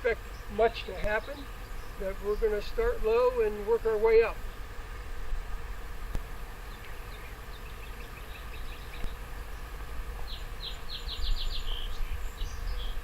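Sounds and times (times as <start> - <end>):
small bird singing: 0.0 - 5.1, 6.5 - 13.0.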